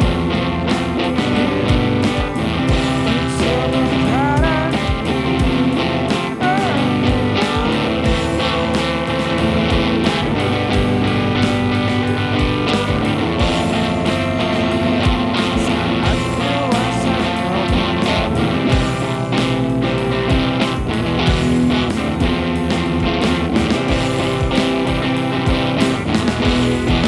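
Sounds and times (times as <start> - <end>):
bass guitar: 0.0 - 27.0
drum kit beating: 0.0 - 27.0
electric guitars: 0.0 - 27.0
sliding guitar melody: 0.0 - 27.0.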